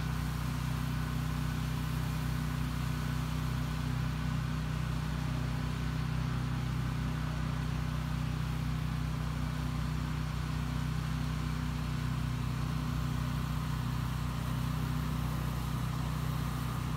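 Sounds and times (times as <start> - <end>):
small engine running: 0.0 - 16.9.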